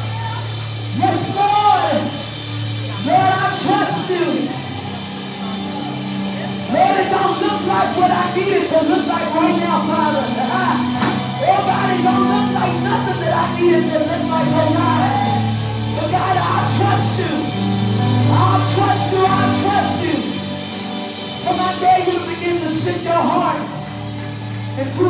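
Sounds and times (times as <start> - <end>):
gospel band playing: 0.0 - 25.0.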